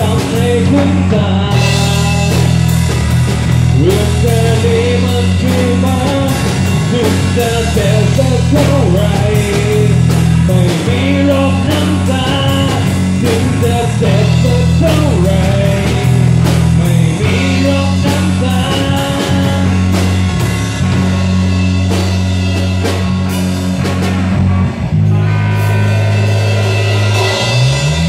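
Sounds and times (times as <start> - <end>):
drum kit: 0.0 - 28.0
electric bass: 0.0 - 28.0
electric guitar: 0.0 - 28.0.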